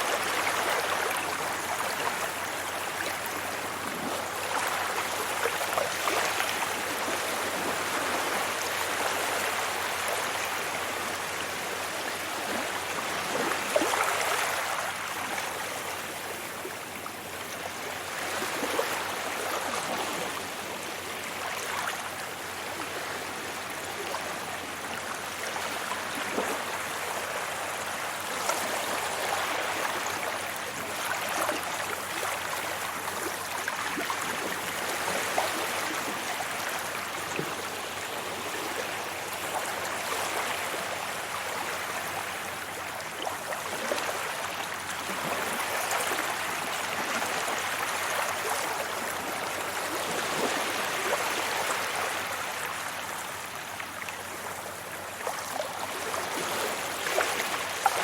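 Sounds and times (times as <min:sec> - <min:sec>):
sea waves on a beach: 0:00.0 - 0:58.0.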